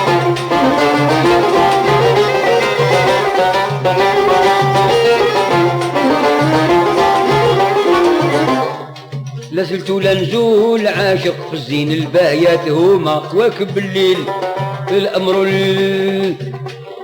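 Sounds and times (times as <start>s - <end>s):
string ensemble melody: 0.0s - 17.0s.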